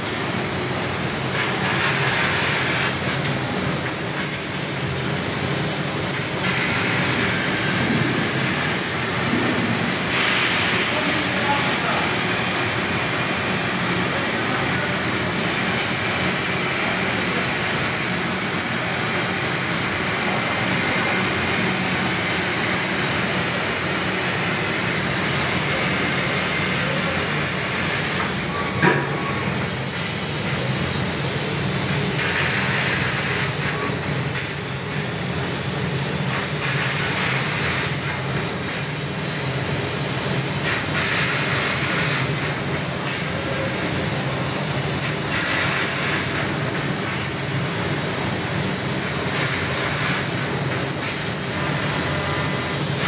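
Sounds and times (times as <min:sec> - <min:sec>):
laser cutting machine rushing: 0:00.0 - 0:53.0.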